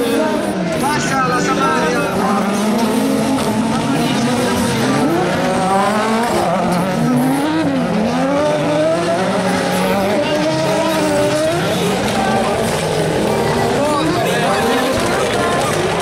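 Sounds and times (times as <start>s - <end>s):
buggy engines revving: 0.0s - 16.0s.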